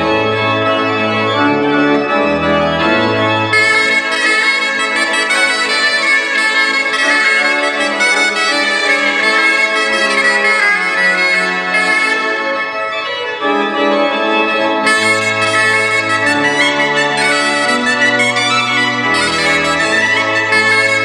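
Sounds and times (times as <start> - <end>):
pipe organ playing: 0.0 - 21.0.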